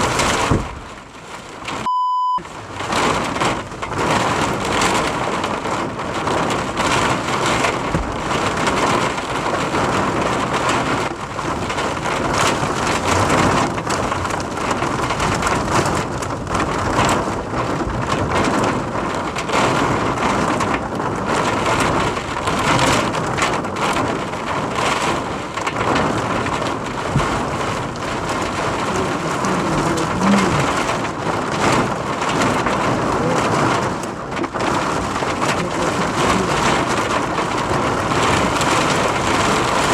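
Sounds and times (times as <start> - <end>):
heavy rain: 0.0 - 39.9
strong wind: 0.0 - 39.9.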